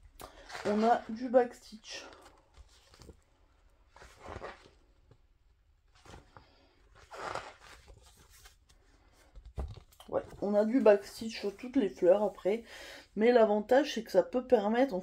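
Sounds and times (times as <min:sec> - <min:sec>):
soft rustles: 0:00.3 - 0:12.6.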